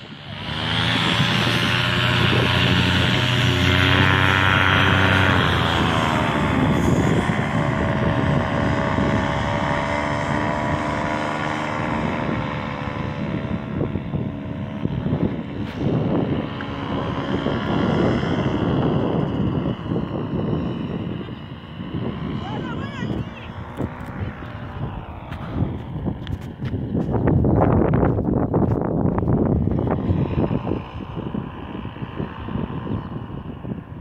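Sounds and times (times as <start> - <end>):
paramotor engine droning: 0.0 - 34.0
wind buffeting microphone: 0.0 - 34.0.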